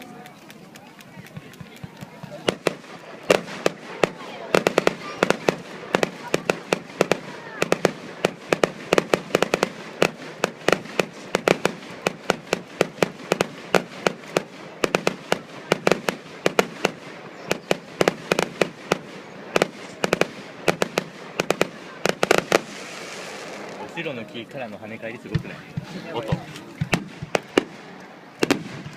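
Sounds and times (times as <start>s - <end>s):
fireworks bangs echoing: 1.0s - 28.9s.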